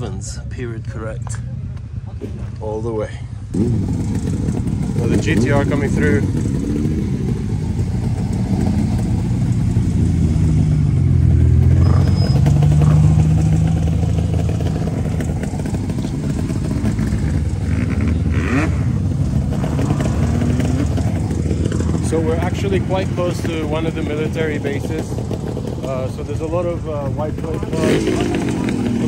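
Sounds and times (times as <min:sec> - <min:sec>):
car engine running at low revs: 0:00.0 - 0:29.0.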